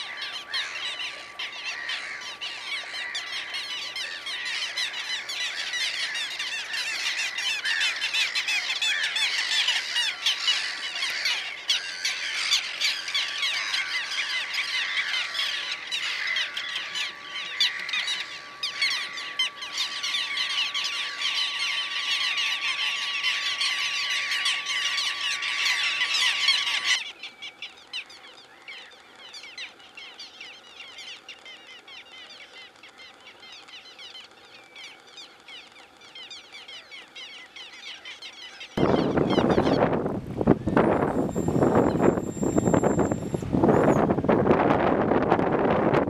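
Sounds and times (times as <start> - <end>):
gulls squawking: 0.0 - 45.0.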